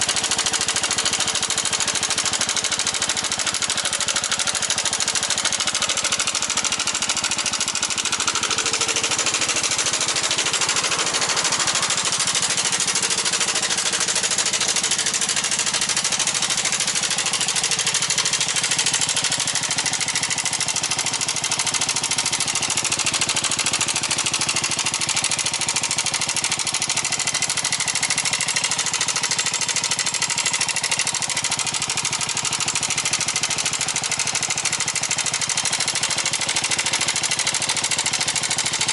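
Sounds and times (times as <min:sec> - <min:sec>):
rapid even engine rattle: 0:00.0 - 0:38.9
scooter engine running: 0:00.0 - 0:38.9.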